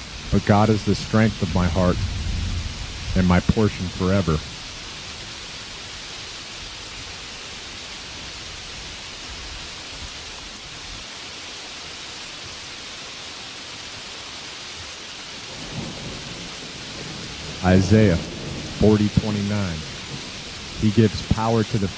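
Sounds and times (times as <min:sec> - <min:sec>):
steady rainfall: 0:00.0 - 0:21.9.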